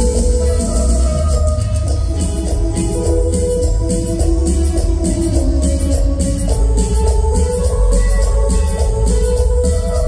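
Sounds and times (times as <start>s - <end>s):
bass: 0.0s - 10.0s
drums: 0.0s - 10.0s
electric guitars: 0.0s - 10.0s
keyboard chords: 0.0s - 10.0s.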